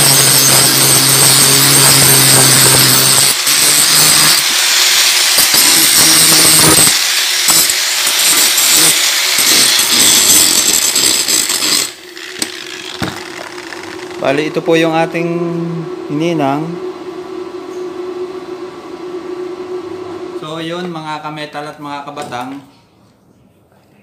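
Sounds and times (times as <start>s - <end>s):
angle grinder grinding steel: 0.0s - 20.8s.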